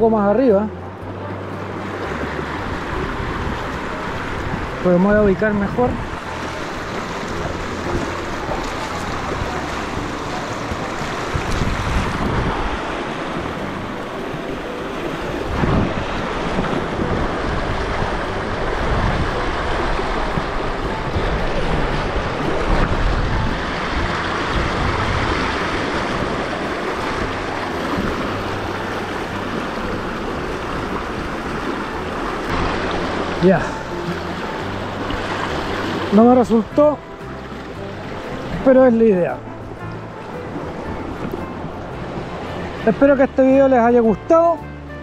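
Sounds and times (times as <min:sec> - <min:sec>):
river water rushing over boulders: 0:00.0 - 0:45.0
wind buffeting microphone: 0:01.0 - 0:43.0.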